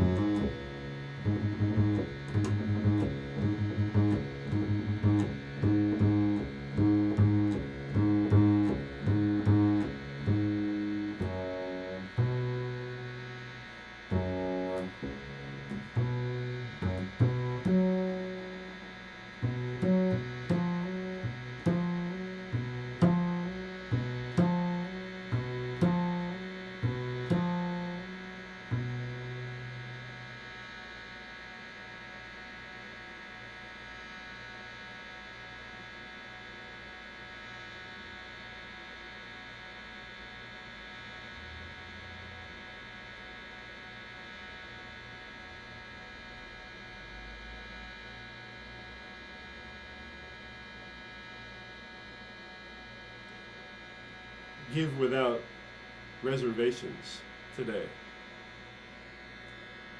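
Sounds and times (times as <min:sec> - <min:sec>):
steady electrical hum: 0:00.0 - 0:59.9.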